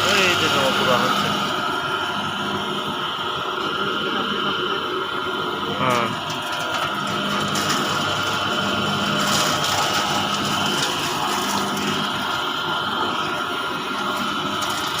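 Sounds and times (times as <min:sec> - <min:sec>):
grinder machine humming: 0:00.0 - 0:15.0.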